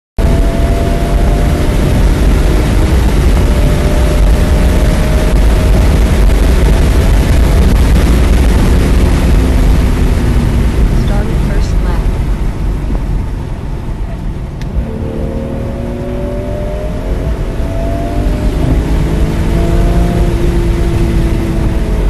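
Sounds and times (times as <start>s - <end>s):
road rumble inside car: 0.2s - 22.0s.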